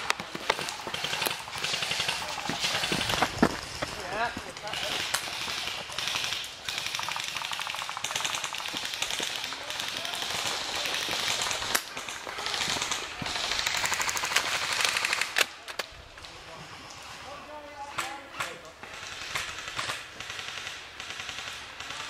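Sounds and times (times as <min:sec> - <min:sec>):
airsoft guns firing bursts: 0:00.0 - 0:15.6, 0:18.0 - 0:22.0.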